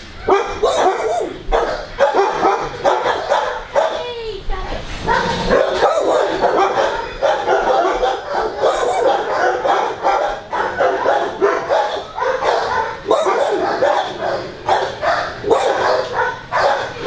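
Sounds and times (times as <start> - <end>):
many dogs barking: 0.2 - 4.2, 5.0 - 17.0.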